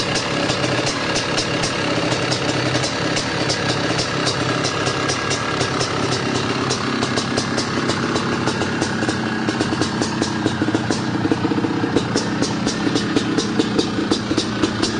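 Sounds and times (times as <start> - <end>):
two-stroke engine idling: 0.0 - 14.9.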